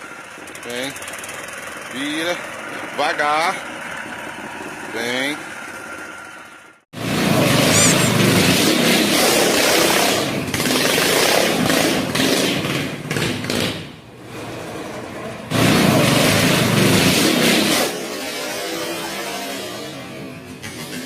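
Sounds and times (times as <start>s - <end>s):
small gasoline engine running rough: 0.0s - 21.0s.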